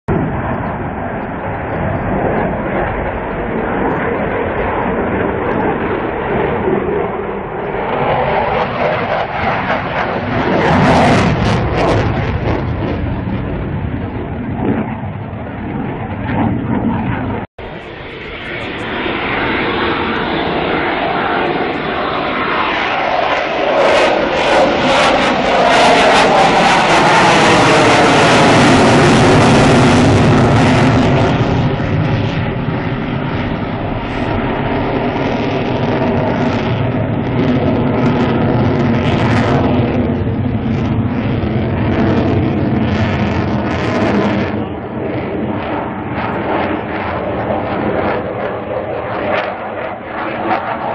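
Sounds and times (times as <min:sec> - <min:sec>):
fighter jet roaring past: 0:00.1 - 0:50.9.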